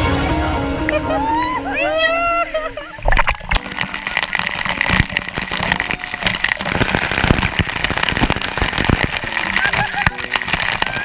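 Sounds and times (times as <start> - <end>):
falling water spattering: 1.7 - 11.0.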